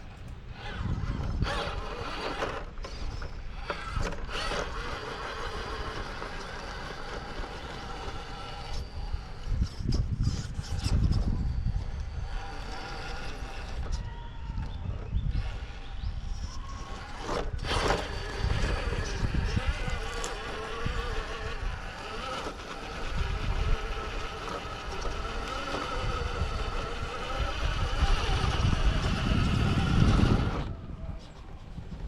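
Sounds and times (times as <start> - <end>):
electric motor whining: 0.0 - 32.0
tires rumbling on rock: 0.0 - 32.0.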